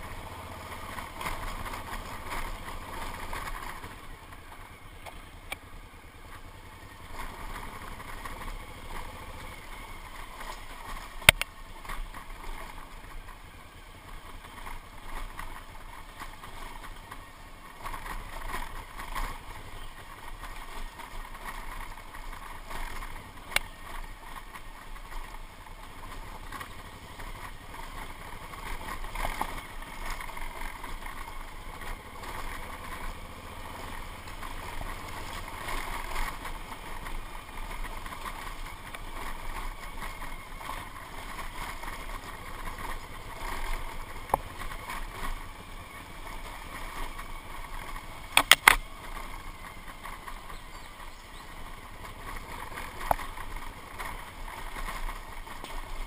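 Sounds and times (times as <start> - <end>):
motorcycle engine running: 0.0 - 56.0
wind and tyre noise: 0.0 - 56.0.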